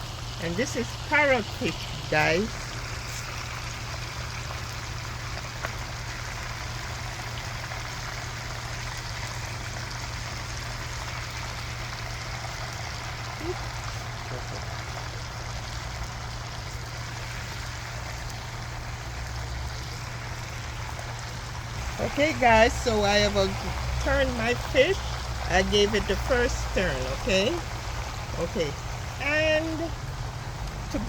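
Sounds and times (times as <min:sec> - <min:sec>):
fish deep-frying in hot oil: 0:00.0 - 0:31.0.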